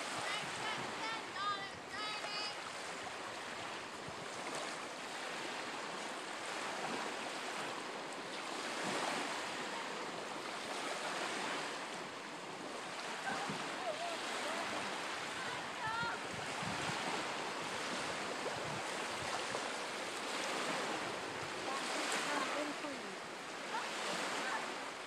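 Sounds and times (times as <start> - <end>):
small waves lapping: 0.0 - 25.0
wind: 0.0 - 25.0.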